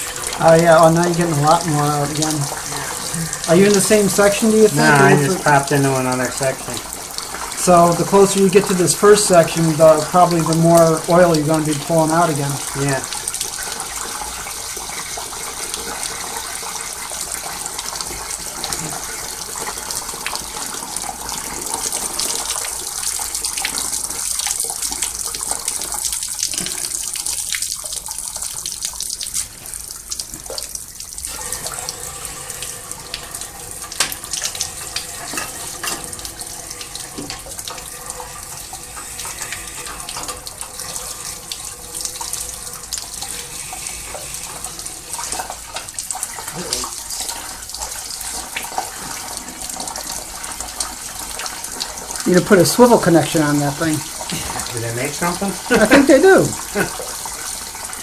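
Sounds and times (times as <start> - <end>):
hose water spraying and draining: 0.0 - 58.0.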